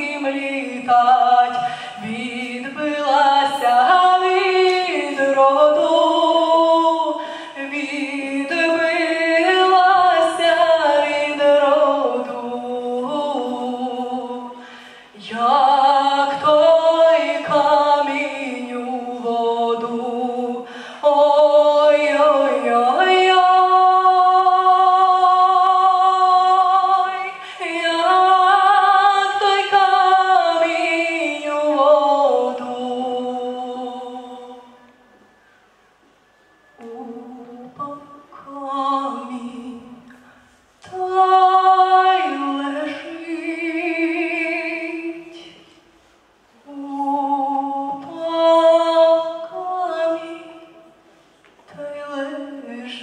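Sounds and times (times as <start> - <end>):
girl singing into microphone: 0.0 - 35.0, 36.7 - 53.0.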